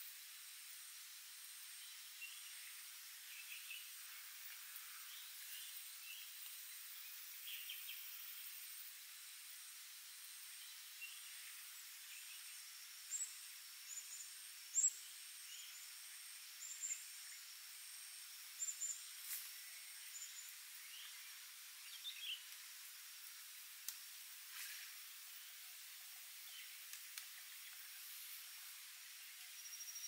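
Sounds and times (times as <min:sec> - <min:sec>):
high-pitched insect drone: 0:00.0 - 0:30.0.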